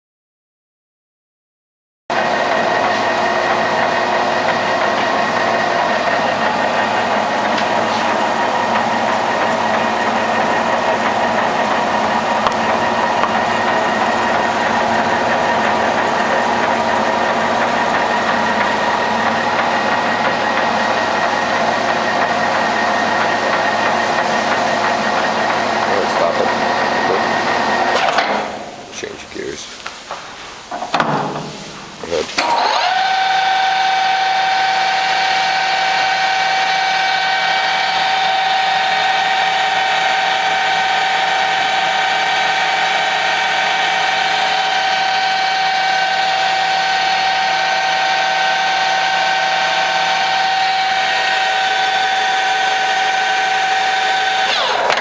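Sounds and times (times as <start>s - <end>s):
lathe humming and whining: 2.1s - 28.9s, 32.2s - 55.0s.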